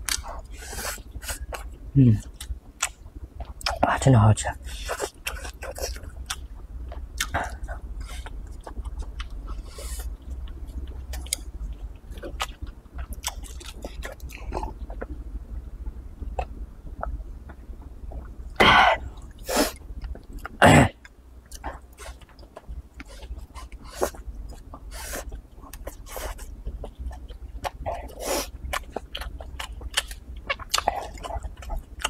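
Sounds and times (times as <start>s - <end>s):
chewing with mouth clicks: 0.0s - 3.8s, 4.8s - 15.2s, 20.0s - 32.0s.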